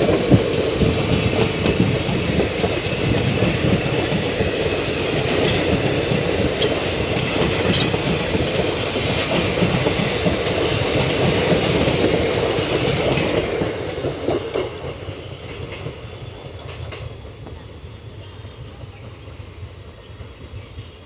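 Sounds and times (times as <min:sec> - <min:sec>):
wheels clicking over rail joints: 0:00.0 - 0:17.6
train coaches rolling past: 0:00.0 - 0:21.0.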